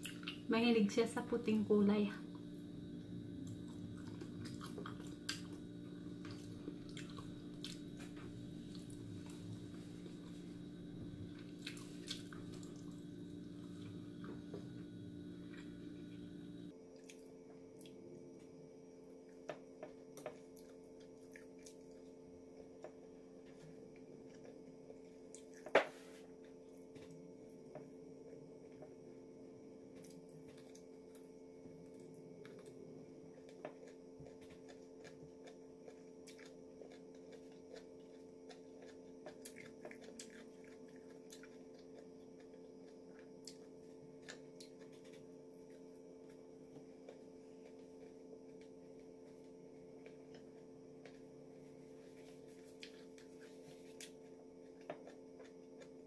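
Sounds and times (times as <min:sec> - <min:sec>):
low hum: 0:00.0 - 0:56.0
person chewing food: 0:03.4 - 0:18.0, 0:19.3 - 0:28.9, 0:29.9 - 0:56.0.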